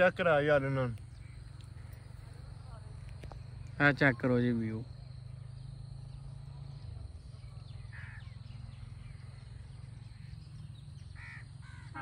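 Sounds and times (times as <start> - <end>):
bird calls: 0.0 - 12.0.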